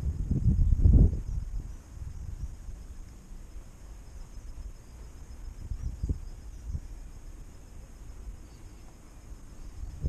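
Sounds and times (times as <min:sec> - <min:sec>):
insects chirring: 0:00.0 - 0:10.0
low rumble on microphone: 0:00.0 - 0:10.0.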